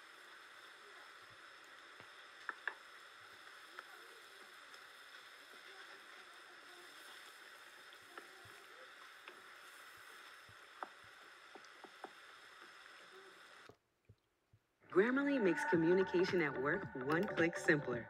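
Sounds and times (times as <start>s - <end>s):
pot simmering over wood fire: 0.0s - 14.7s.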